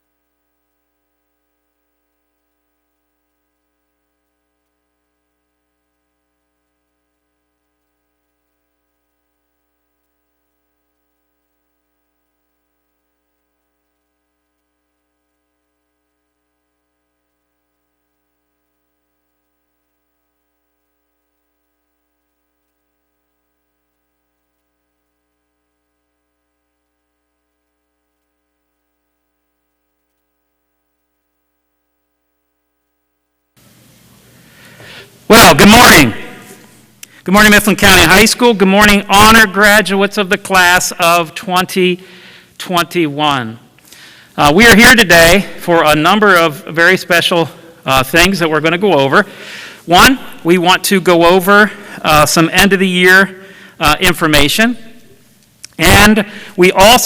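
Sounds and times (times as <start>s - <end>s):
faint electrical hum: 0.0s - 57.0s.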